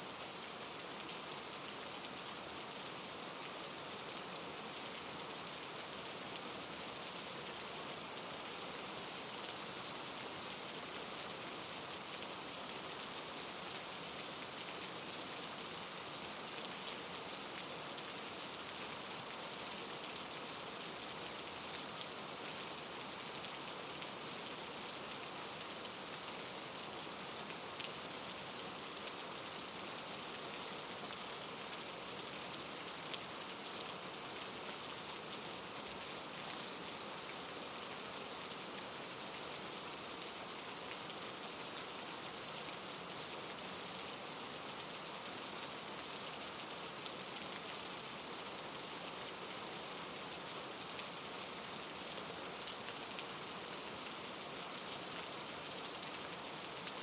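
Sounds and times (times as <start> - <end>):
soft rain hissing: 0.0 - 57.0.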